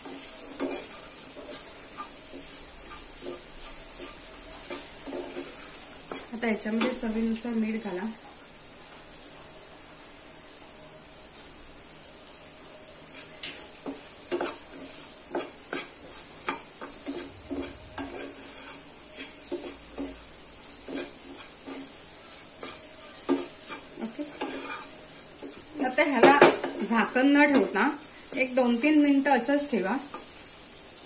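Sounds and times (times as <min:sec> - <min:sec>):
spatula scraping a pan: 0:00.0 - 0:07.4, 0:13.1 - 0:30.8
faint frying sizzle: 0:00.0 - 0:31.0.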